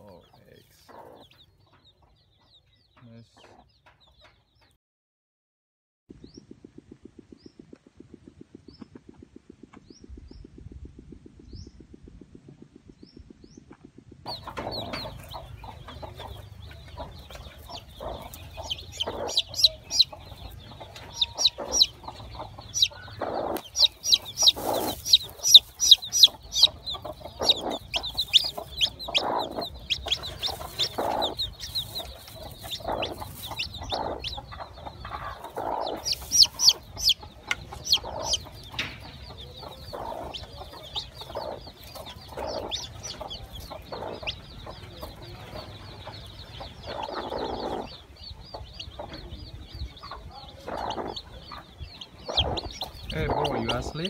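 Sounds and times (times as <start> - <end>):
hen clucking: 0.0 - 4.7, 13.7 - 54.0
chicks peeping: 0.0 - 4.8, 6.1 - 10.6, 12.9 - 54.0.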